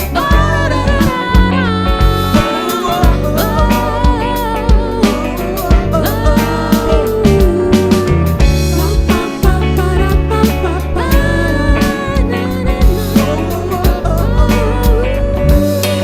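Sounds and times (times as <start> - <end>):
bass guitar: 0.0 - 16.0
drum kit beat: 0.0 - 16.0
guitar melody: 0.0 - 16.0.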